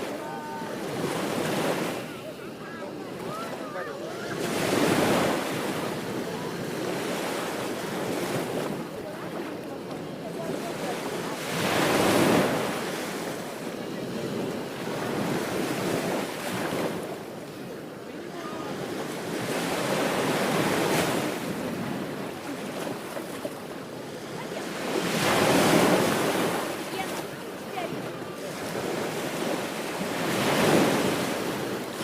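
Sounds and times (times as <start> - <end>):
ocean waves breaking: 0.0 - 32.0.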